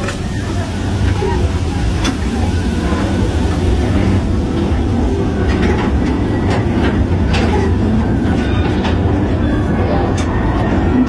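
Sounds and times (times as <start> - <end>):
ride cars rumbling on track: 0.0 - 11.0.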